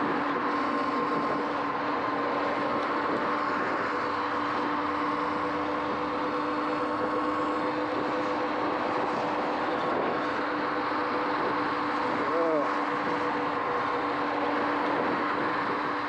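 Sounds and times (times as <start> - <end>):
electric motor whine: 0.0 - 16.0
tyres on damp pavement: 0.0 - 16.0
wind: 0.0 - 16.0.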